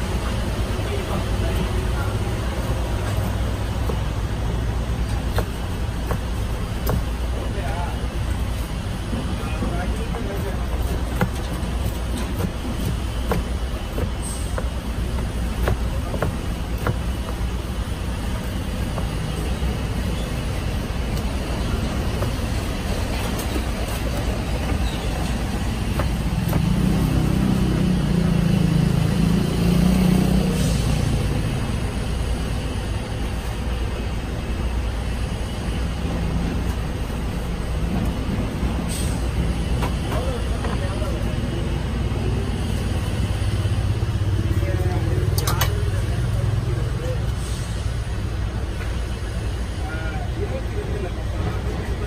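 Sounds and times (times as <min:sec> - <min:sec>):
street traffic rumble: 0:00.0 - 0:52.0.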